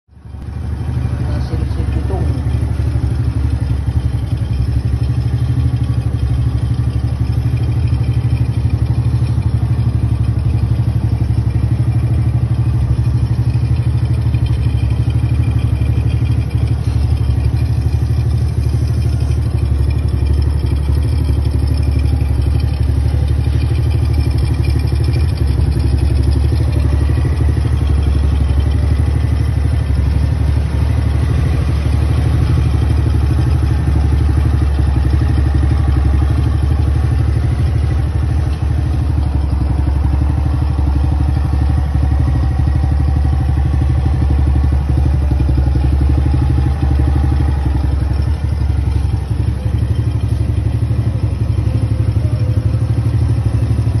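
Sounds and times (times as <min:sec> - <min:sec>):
motorcycle engine idling: 0:00.1 - 0:54.0.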